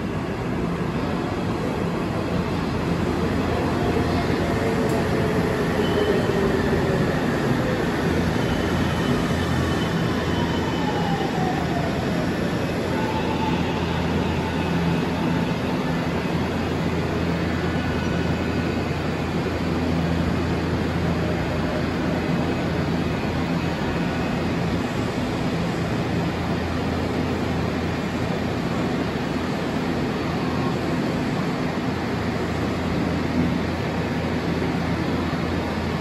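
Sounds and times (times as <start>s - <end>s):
electric train humming: 0.0s - 36.0s.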